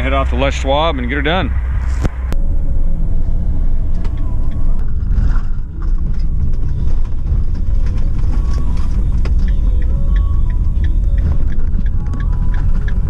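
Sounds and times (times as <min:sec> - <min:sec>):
van road and engine rumble: 0:00.0 - 0:13.0.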